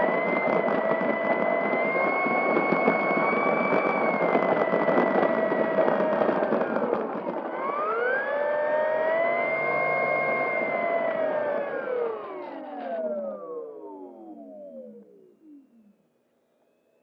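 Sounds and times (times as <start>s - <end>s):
wind rushing over camera: 0.0s - 14.7s
electric motor and propeller whining: 0.0s - 16.0s.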